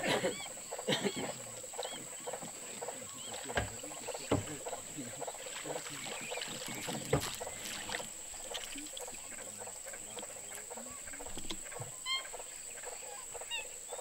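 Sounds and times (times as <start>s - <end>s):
bird call: 0.0s - 14.0s.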